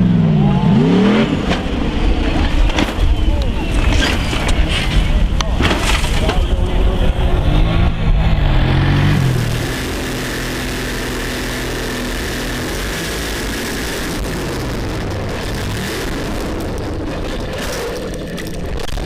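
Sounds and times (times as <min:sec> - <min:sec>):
truck engine running hard: 0:00.0 - 0:19.0.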